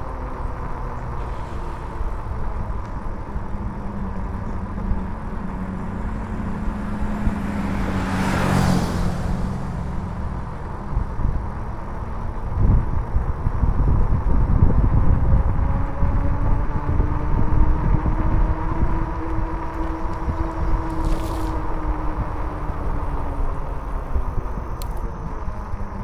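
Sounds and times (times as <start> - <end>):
motor vehicle passing: 0.0 - 26.0
wind and road noise: 0.0 - 26.0.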